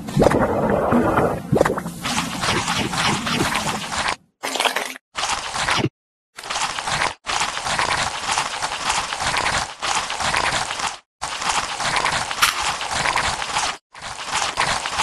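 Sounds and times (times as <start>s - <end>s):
fish wriggling in water: 0.2s - 15.0s
wet squelching of mud: 1.6s - 15.0s.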